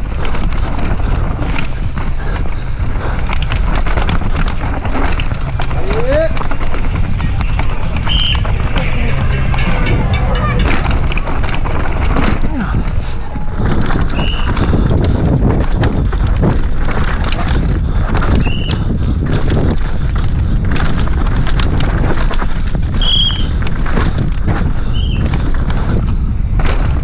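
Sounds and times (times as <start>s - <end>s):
bike rattling over bumps: 0.0s - 27.0s
wind rushing over microphone: 0.0s - 27.0s.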